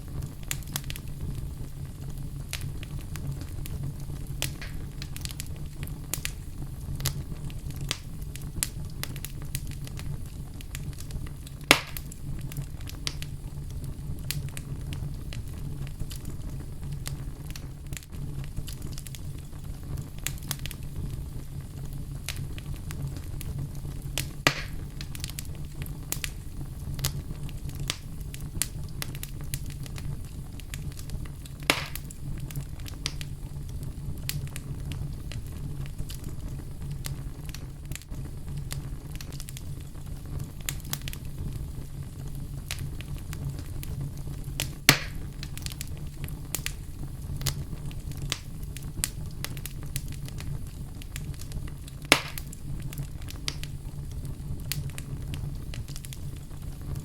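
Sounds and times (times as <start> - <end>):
fireplace fire crackling: 0.0 - 57.0
loud fire pops: 0.0 - 57.0.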